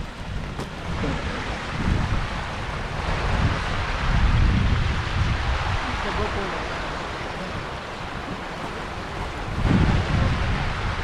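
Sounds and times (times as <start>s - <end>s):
creek rushing: 0.0s - 11.0s
wind buffeting microphone: 0.0s - 11.0s.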